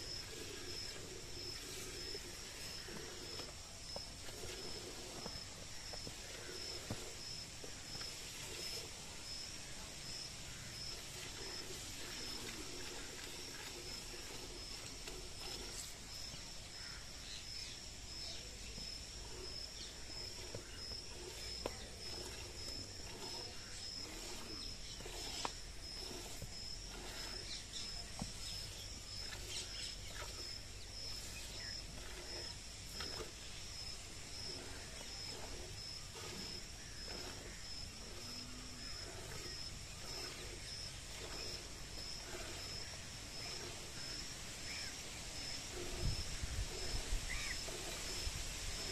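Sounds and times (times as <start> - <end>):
milk spurting into steel pail: 0.0 - 17.0, 18.1 - 48.9.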